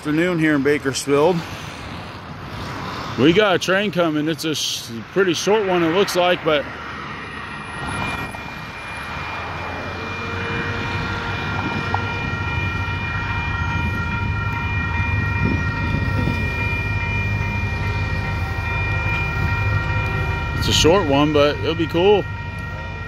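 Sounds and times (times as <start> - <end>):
diesel locomotive rumble: 0.0 - 23.0
crossing warning bell ringing: 3.2 - 23.0.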